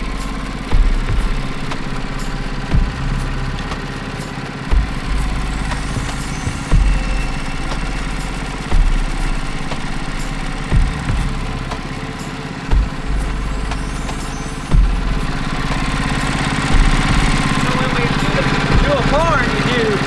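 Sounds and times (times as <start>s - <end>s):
gas engine idling: 0.0s - 20.0s.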